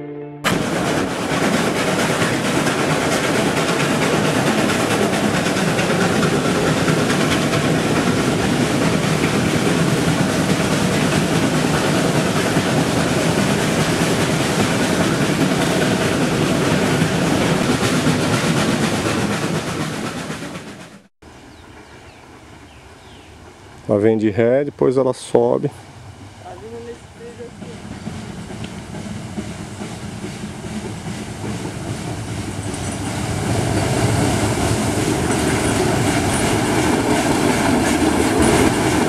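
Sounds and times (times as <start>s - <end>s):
steam train rumble and hiss: 0.5s - 39.0s.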